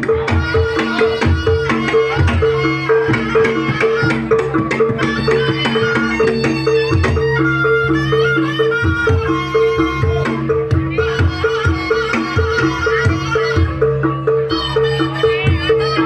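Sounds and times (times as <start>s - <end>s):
hand drum strokes: 0.0s - 16.0s
pitched percussion pattern: 0.0s - 16.0s
reedy melody: 0.0s - 16.0s.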